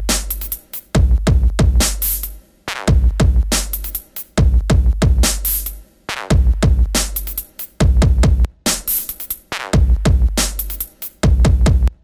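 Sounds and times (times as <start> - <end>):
electronic music with drum-machine beat: 0.0 - 12.0.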